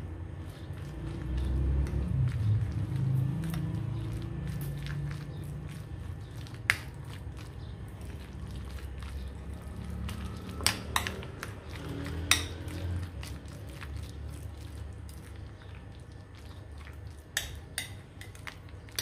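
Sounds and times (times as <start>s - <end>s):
spoon stirring food in glass bowl: 0.4s - 19.0s.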